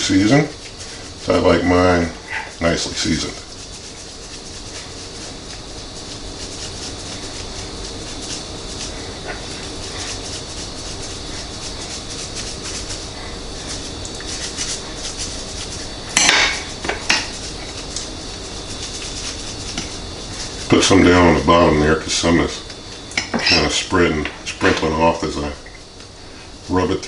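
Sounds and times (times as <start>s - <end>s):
seasoning granules pattering: 0.0s - 27.0s.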